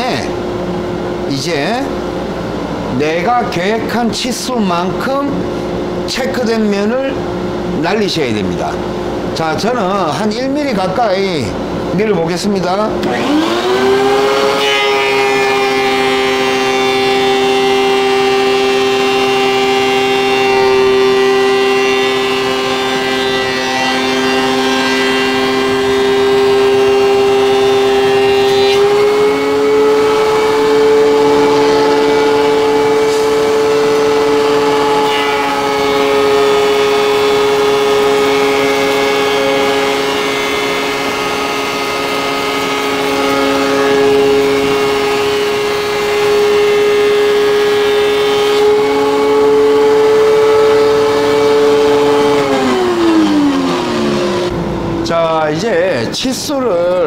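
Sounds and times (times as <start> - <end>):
thickness planer whining: 0.0 - 57.0.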